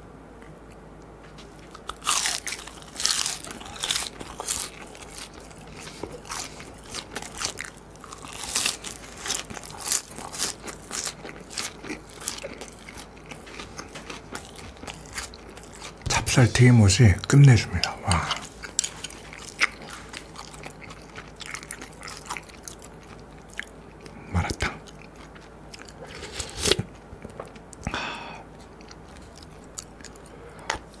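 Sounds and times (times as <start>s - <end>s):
crunchy food chewing: 0.4s - 31.0s.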